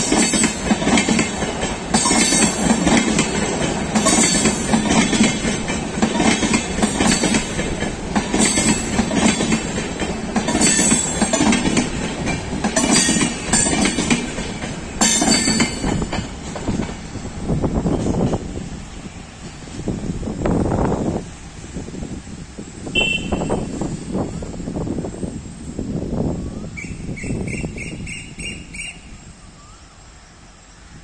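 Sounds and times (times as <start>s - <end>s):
train wheels rumbling and clattering: 0.0s - 29.2s.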